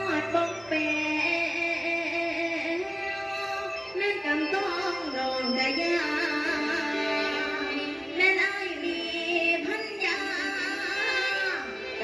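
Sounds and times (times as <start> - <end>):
woman singing into microphone: 0.0 - 12.0.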